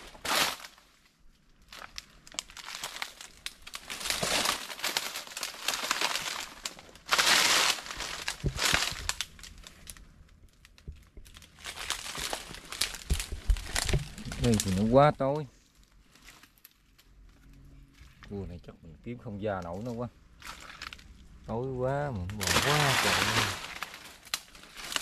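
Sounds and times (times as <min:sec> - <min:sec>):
leaves and brush rustling: 0:00.0 - 0:10.1, 0:10.7 - 0:17.4, 0:19.3 - 0:25.0.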